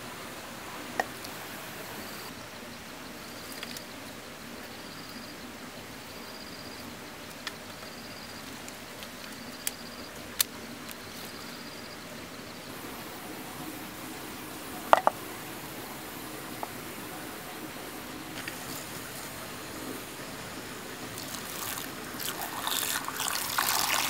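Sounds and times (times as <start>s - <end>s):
insect chirping: 0.0s - 24.0s.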